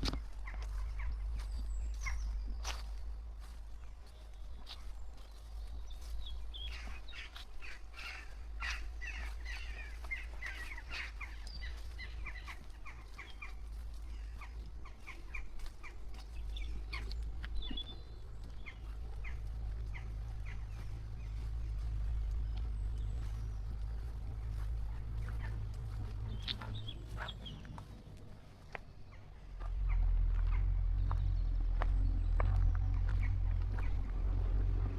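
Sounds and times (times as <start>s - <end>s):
birds chirping: 0.0s - 34.9s
steady low rumble: 0.0s - 34.9s.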